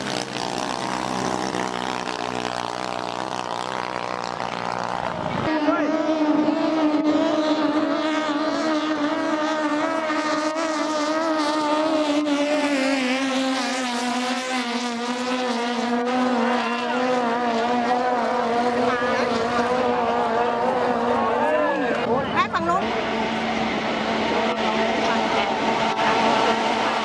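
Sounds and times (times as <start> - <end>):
motorboat engine running hard: 0.0 - 27.0.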